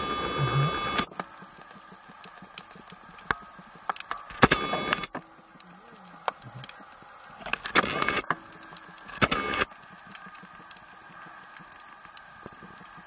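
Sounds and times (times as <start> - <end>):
faint clicks: 0.0 - 13.0.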